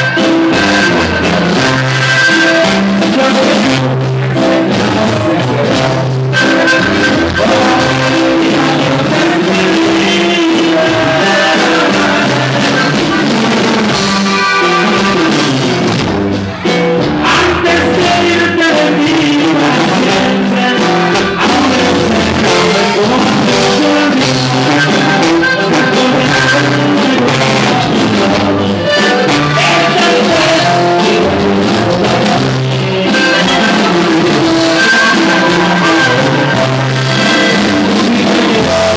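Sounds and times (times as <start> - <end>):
man singing lead: 0.0 - 15.9, 16.5 - 38.9
button accordion: 0.0 - 38.9
guitar: 0.0 - 38.9
tuba: 0.0 - 38.9.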